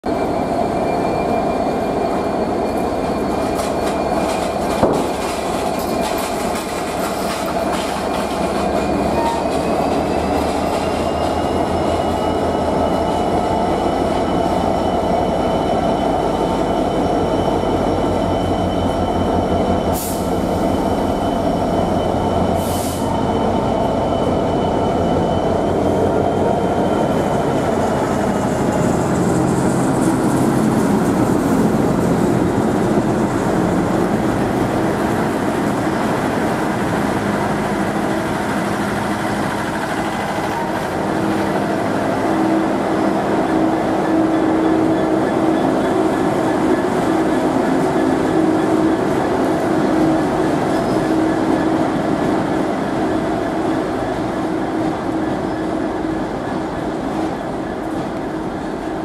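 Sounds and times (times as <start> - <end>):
diesel locomotive engine: 0.0 - 59.0.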